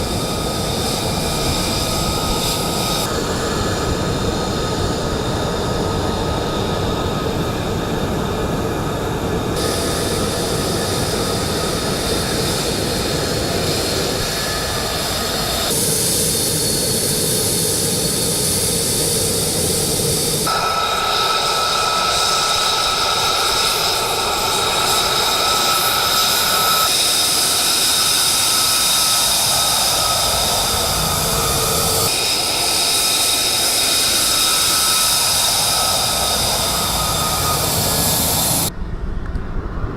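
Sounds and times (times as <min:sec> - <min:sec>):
jet engine roaring and whining: 0:00.0 - 0:39.9.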